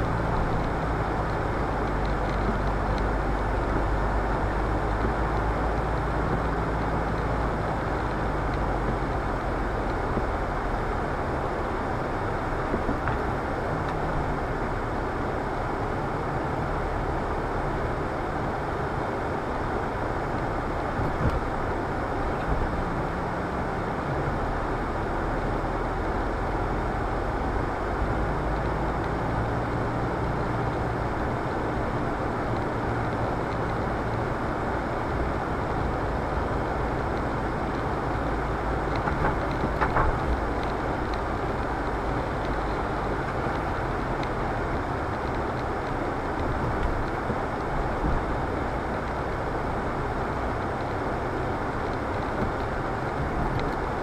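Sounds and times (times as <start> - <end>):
low engine rumble: 0.0 - 54.0
tyres hissing on wet road: 0.0 - 54.0.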